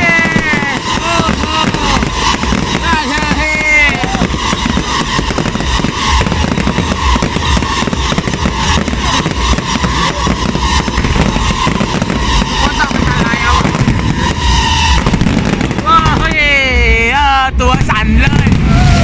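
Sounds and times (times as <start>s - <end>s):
fireworks crackling and booming: 0.0s - 19.0s.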